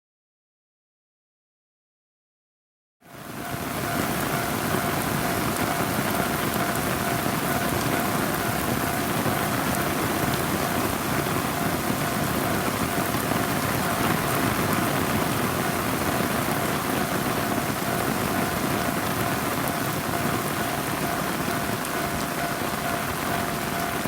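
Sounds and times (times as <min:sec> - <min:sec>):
heavy rain: 0:03.1 - 0:24.0
faint steady tone: 0:03.4 - 0:24.0.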